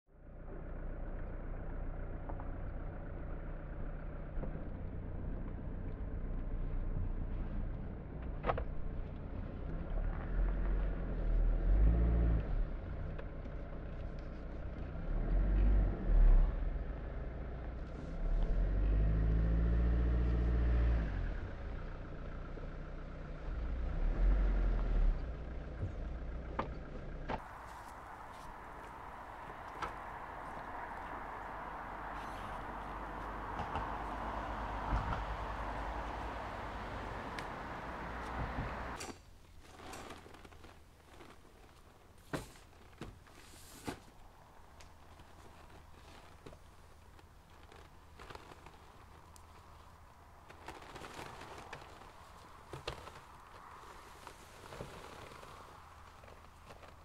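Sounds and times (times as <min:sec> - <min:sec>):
vehicles passing: 0:00.1 - 0:42.6, 0:43.2 - 0:57.0
low traffic rumble: 0:00.1 - 0:57.0
outdoor ambience: 0:00.1 - 0:57.0.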